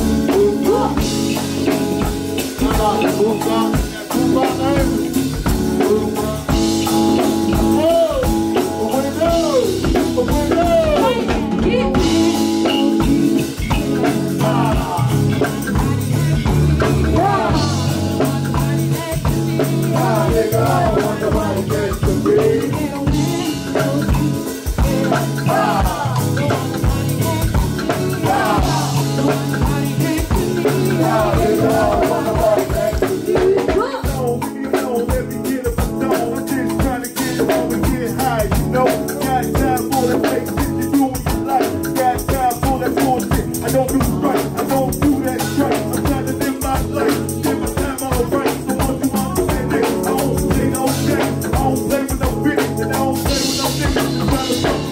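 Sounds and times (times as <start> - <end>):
drum kit beat: 0.0 - 54.9
vocalists singing: 0.0 - 54.9.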